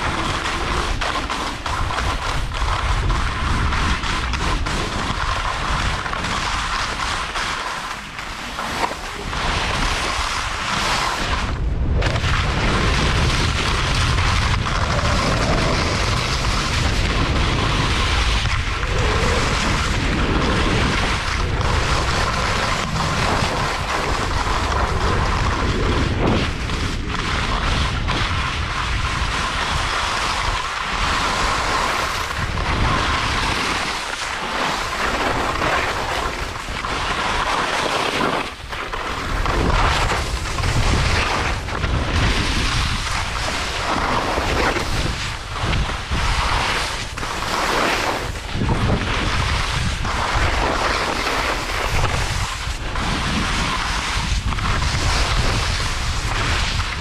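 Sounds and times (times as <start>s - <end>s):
wind buffeting microphone: 0.0s - 7.3s, 8.3s - 57.0s
ski edges scraping snow: 0.0s - 57.0s.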